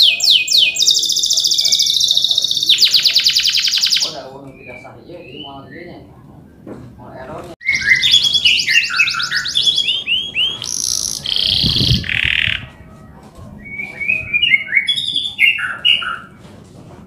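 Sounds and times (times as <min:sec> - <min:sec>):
canary singing: 0:00.0 - 0:06.1, 0:07.6 - 0:16.4.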